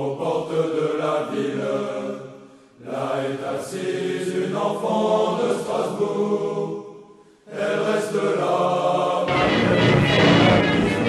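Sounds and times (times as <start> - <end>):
choir singing slow held chords: 0.0 - 11.0.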